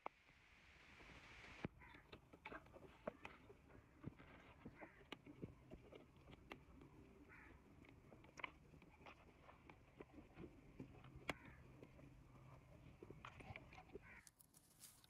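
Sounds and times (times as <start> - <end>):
low steady hum: 0.0 - 15.0
faint clicks: 1.6 - 14.4.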